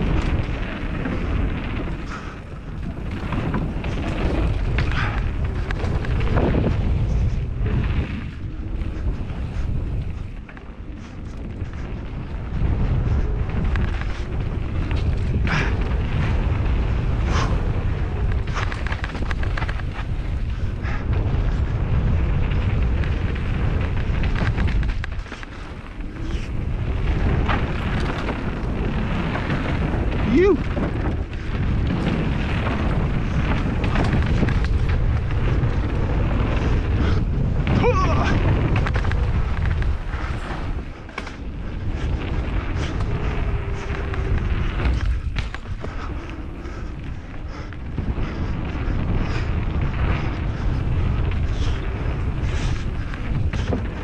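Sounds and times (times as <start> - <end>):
bike tyres and frame rattling: 0.0 - 54.0
wind buffeting microphone: 0.0 - 54.0.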